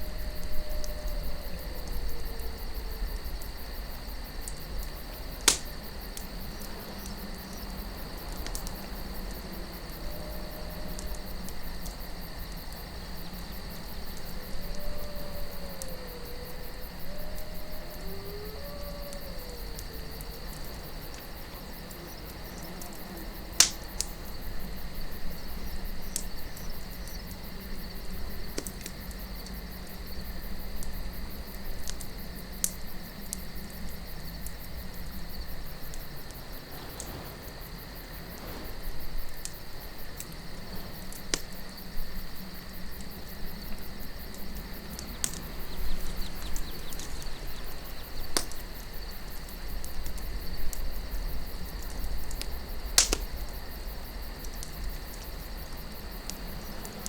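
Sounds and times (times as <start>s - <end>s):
crickets chirring: 0.0s - 57.0s
campfire crackling and popping: 3.2s - 14.8s, 19.0s - 57.0s.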